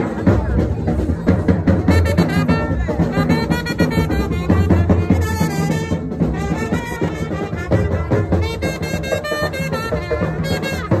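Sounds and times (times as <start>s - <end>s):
band music with drums and horns: 0.0s - 11.0s.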